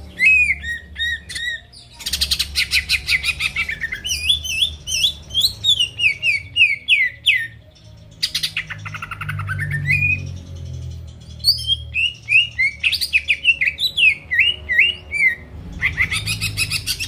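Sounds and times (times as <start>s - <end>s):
bird singing: 0.0s - 17.0s
bird trill: 0.0s - 17.0s.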